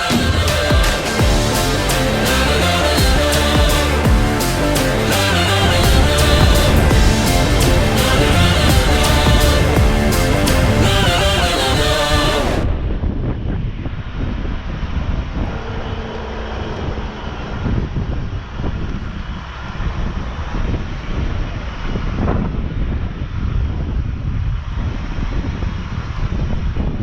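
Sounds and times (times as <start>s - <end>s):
engine cooling fan roaring: 0.0s - 22.2s.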